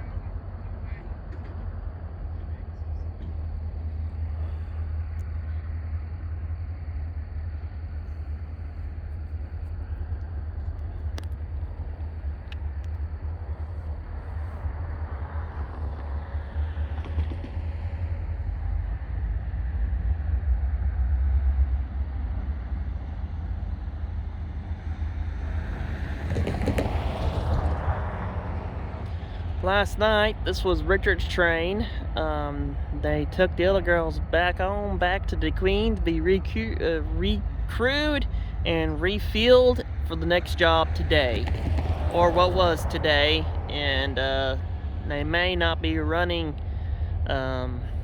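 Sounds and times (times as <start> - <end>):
diesel locomotives rumbling: 0.0 - 48.0.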